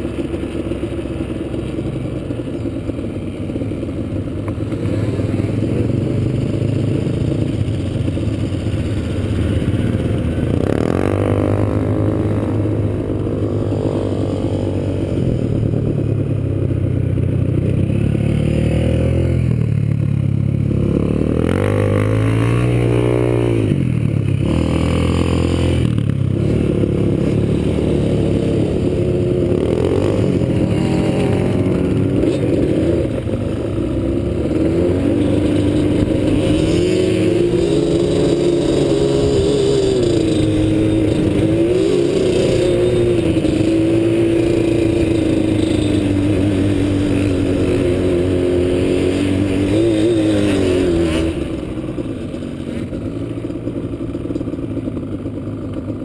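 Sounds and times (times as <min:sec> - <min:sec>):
quad engine revving: 0:00.0 - 0:54.5.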